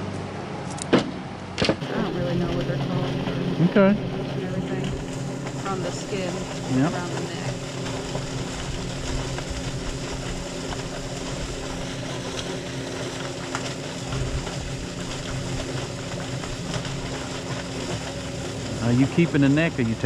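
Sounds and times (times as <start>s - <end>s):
machine humming: 1.2s - 20.0s.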